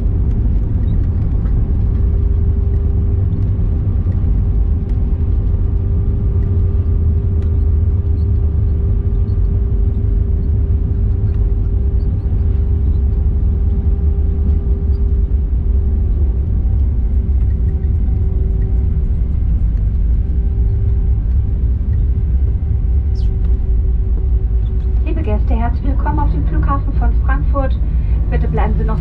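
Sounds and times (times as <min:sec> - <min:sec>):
deep low cabin rumble: 0:00.0 - 0:29.0
steady hum: 0:00.0 - 0:29.0.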